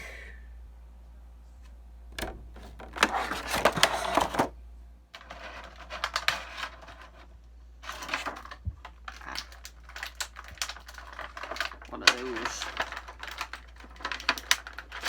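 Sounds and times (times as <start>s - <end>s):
plastic packaging crackling: 2.2s - 4.5s, 5.2s - 15.0s.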